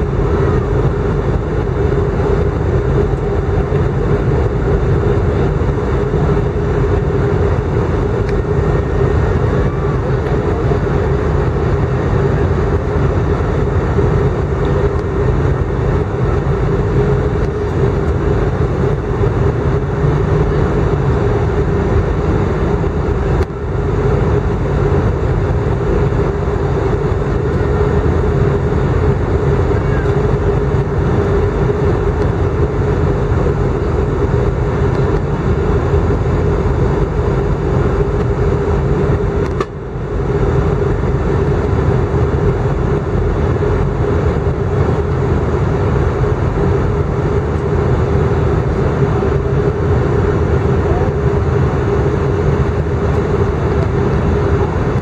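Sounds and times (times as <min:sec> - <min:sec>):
jet engines and airflow rushing: 0:00.0 - 0:55.0
steady hum: 0:00.0 - 0:55.0.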